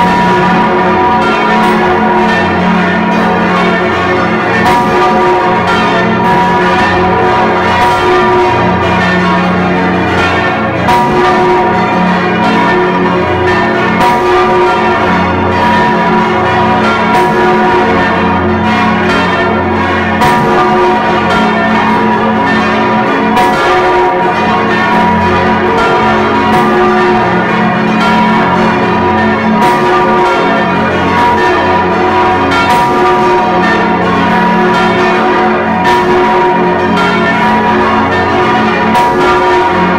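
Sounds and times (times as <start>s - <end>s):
continuous bell ringing: 0.0s - 39.9s.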